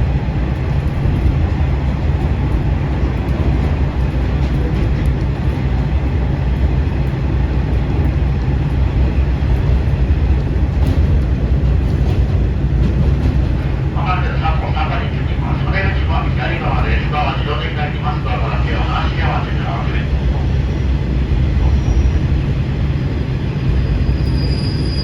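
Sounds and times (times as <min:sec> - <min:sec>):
diesel railcar rumbling: 0:00.0 - 0:25.0.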